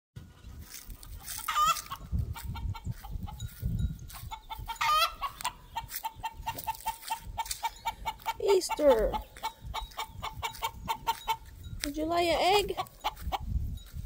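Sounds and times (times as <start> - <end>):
hen clucking: 0.2 - 13.5.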